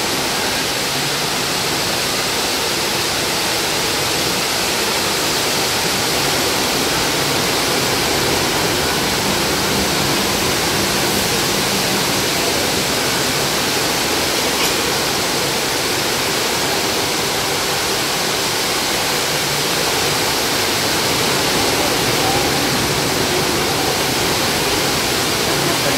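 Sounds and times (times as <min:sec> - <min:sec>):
water falling and splashing: 0:00.0 - 0:25.9.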